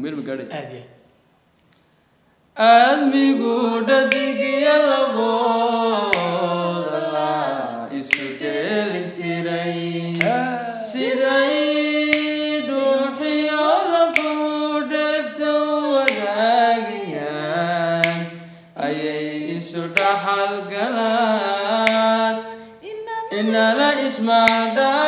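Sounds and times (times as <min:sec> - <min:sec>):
man singing unaccompanied: 0:02.6 - 0:22.6, 0:23.3 - 0:25.0.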